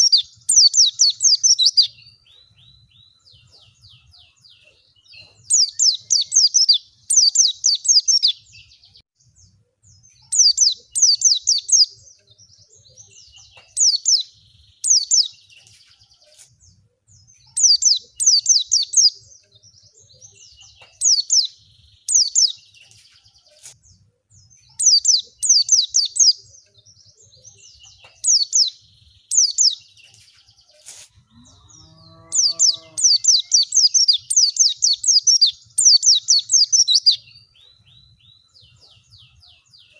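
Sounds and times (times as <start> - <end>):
bird chirping high downward notes: 0.0 - 39.9.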